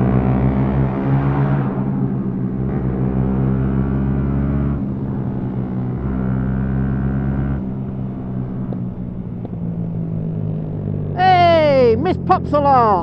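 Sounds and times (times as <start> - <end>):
motorcycle engine under throttle: 0.0 - 11.8.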